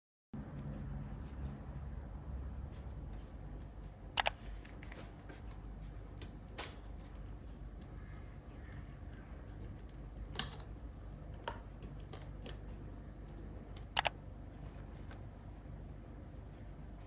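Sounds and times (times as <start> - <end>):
low steady hum: 0.4 - 17.0.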